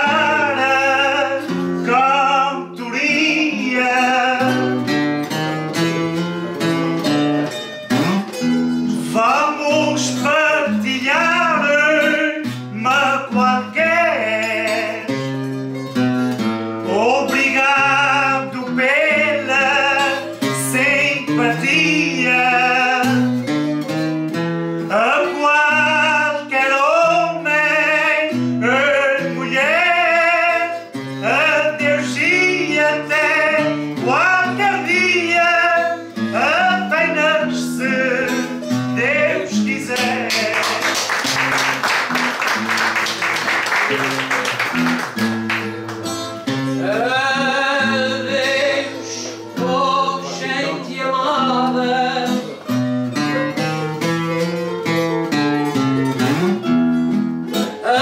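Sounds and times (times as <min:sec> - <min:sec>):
person singing: 0:00.0 - 0:24.0, 0:24.8 - 0:56.8, 0:57.4 - 0:58.0
plucked strings: 0:00.0 - 0:58.0.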